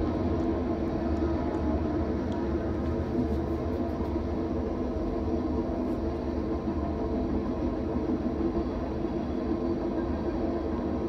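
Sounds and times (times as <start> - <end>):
train running past: 0.0 - 11.0.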